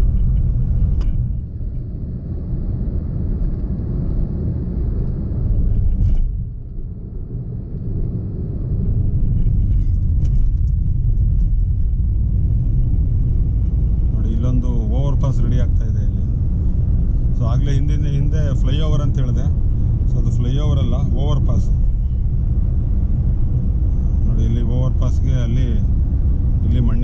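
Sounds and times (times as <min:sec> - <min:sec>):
road vehicle rumble: 0:00.0 - 0:27.0.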